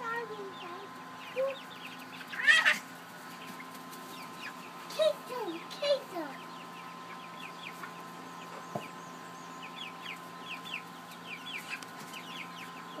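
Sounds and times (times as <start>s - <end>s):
young chickens peeping: 0.0s - 13.0s.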